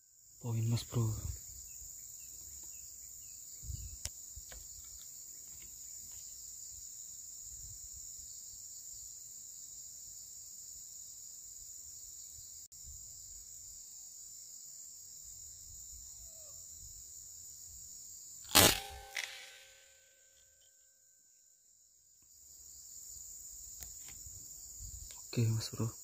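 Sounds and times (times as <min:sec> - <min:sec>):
high-pitched insect chorus: 0:00.0 - 0:20.9, 0:21.6 - 0:26.0.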